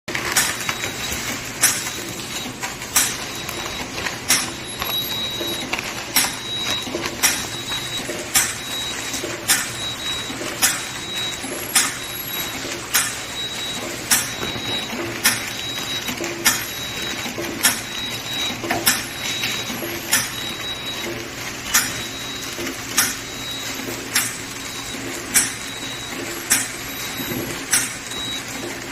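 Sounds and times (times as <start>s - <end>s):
mechanical hum: 0.1s - 28.9s
packaging machine hissing clack: 0.1s - 28.9s.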